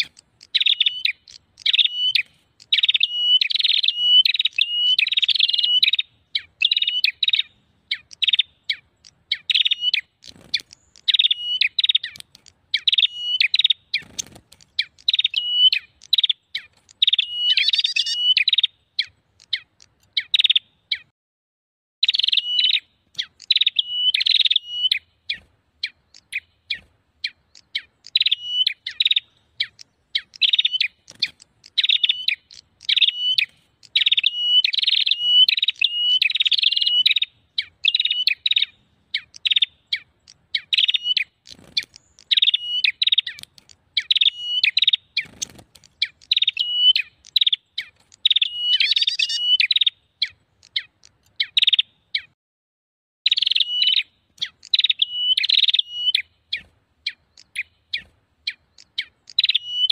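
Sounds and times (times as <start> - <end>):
songbirds chirping: 0.0 - 21.1, 22.0 - 52.4, 53.3 - 59.9.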